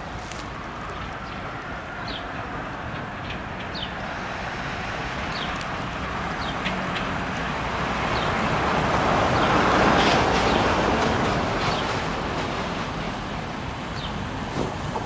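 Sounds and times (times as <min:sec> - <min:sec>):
train approaching: 0:00.0 - 0:15.0.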